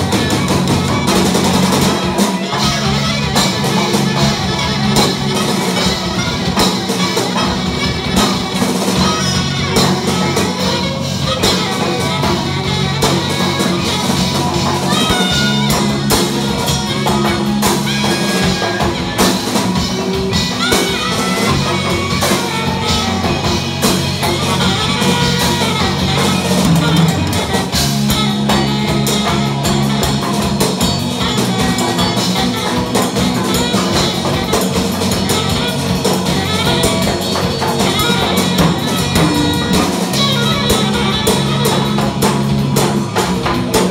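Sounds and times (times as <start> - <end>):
drum kit: 0.0 - 43.9
electric guitars: 0.0 - 43.9.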